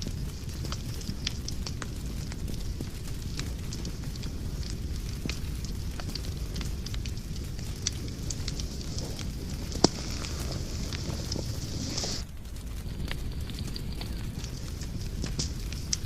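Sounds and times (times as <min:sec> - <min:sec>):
low rumble of flame: 0:00.0 - 0:16.0
sharp pops of fire: 0:00.0 - 0:16.0
wood fire crackling: 0:00.0 - 0:16.0.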